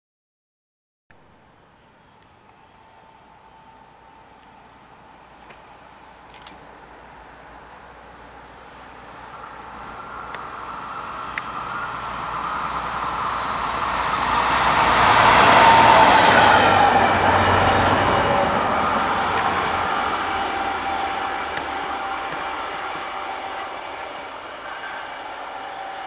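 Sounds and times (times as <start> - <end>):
train passing: 1.2 - 26.0
locomotive whine: 1.6 - 26.0.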